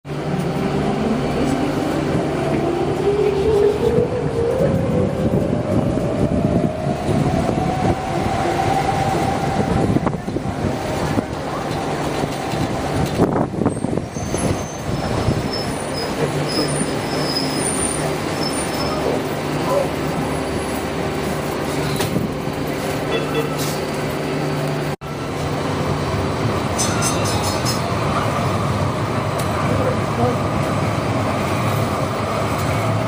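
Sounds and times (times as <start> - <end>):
street traffic noise: 0.1 - 33.0.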